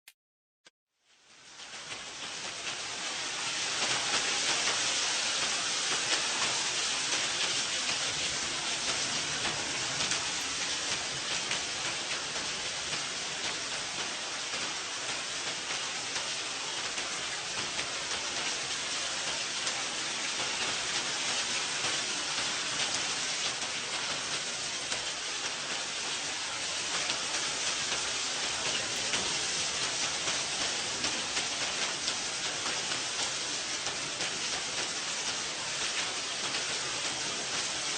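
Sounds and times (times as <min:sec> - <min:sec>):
steady rain: 0:01.0 - 0:37.9.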